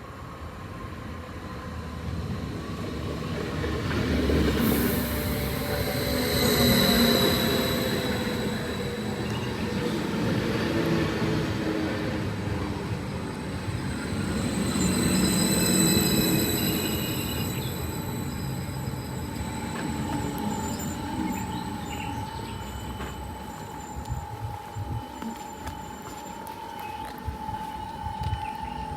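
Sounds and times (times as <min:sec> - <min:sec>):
train rumbling past: 0:00.0 - 0:28.9
high wheel squeals: 0:02.6 - 0:28.9.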